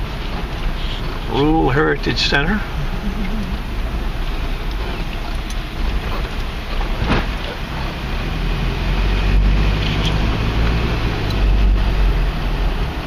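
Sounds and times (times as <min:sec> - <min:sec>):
road and wind noise: 0:00.0 - 0:13.0
truck engine hum: 0:00.0 - 0:13.0.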